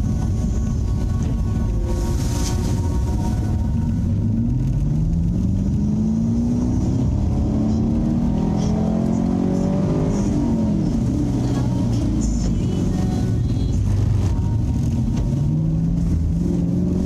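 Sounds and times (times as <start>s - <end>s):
car engine accelerating through gears: 0.0s - 17.0s.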